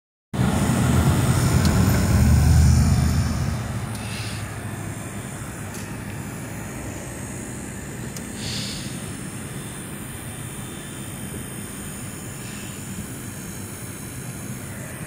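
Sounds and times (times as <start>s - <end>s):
low mechanical rumble: 0.4s - 15.0s
machine running noise: 0.4s - 15.0s.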